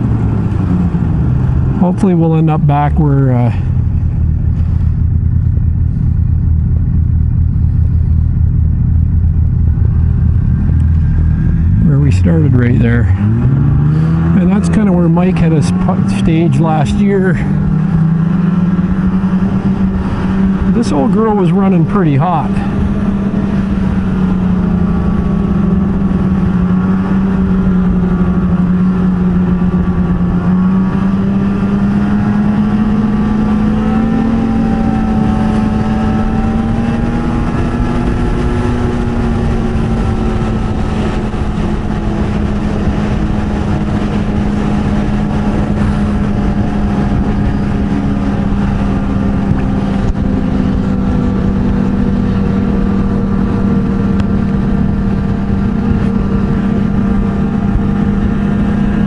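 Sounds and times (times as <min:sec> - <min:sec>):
constant rushing noise: 0:00.0 - 0:59.0
snowmobile engine running: 0:00.0 - 0:59.0.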